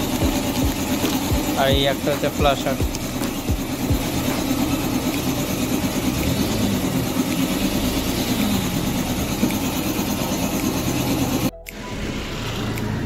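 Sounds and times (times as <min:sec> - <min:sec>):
engine-like rumble: 0:00.0 - 0:13.0.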